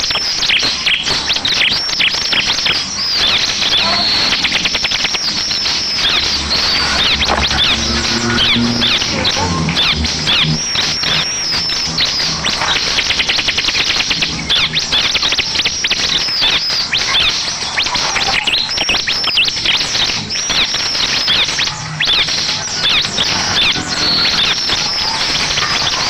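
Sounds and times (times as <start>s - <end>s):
bird chirping song with trill: 0.0s - 26.0s.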